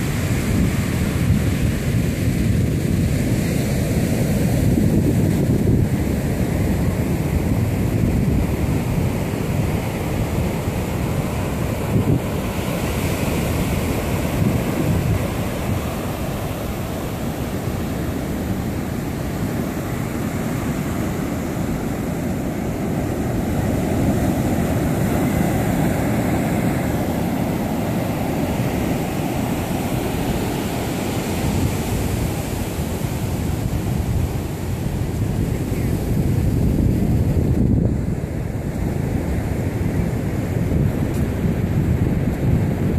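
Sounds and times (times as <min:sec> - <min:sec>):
ocean surf breaking: 0:00.0 - 0:42.9
wind buffeting microphone: 0:00.0 - 0:42.9.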